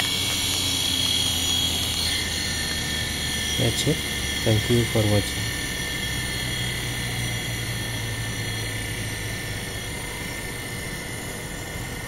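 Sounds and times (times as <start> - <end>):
motor hum: 0.0 - 12.0
thin high whine: 0.0 - 12.0.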